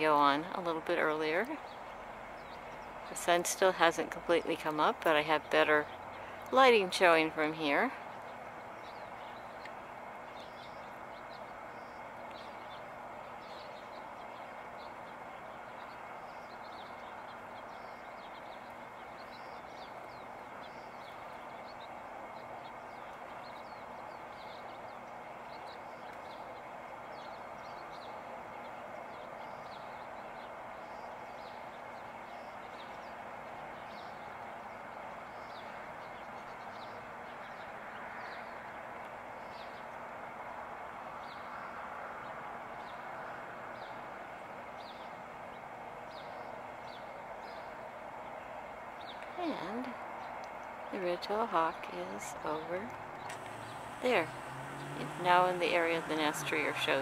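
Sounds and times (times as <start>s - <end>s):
small birds chirping: 0.0s - 40.1s, 41.1s - 44.1s, 44.7s - 57.0s.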